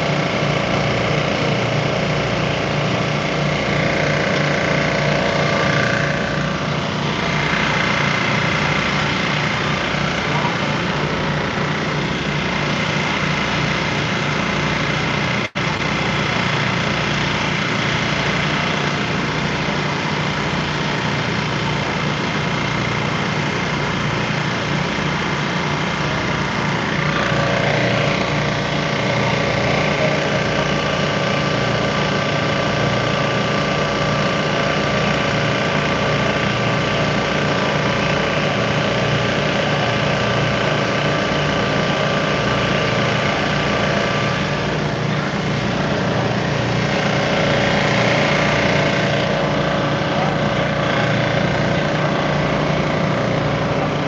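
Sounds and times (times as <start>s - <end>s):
engines droning: 0.0s - 54.0s
higher steady hum: 0.0s - 54.0s.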